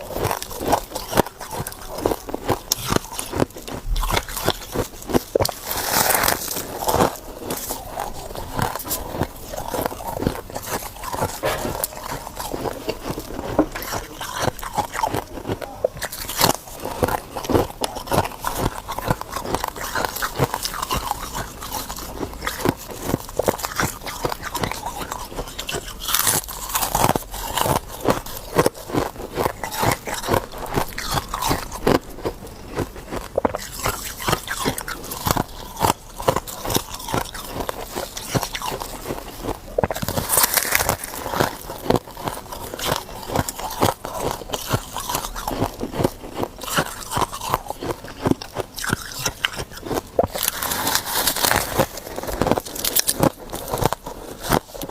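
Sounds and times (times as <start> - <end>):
ice being chewed: 0.0 - 54.9.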